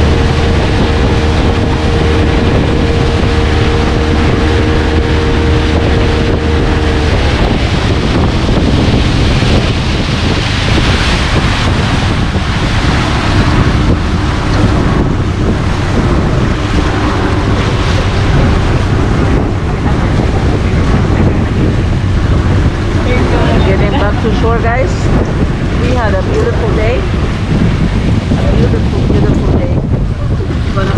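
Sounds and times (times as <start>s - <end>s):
boat motor running: 0.0s - 30.9s
water rushing past boat hull: 0.0s - 30.9s
wind buffeting microphone: 0.0s - 30.9s.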